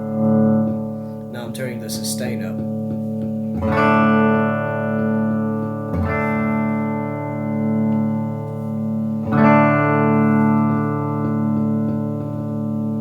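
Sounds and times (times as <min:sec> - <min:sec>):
electric guitar ringing: 0:00.0 - 0:13.0.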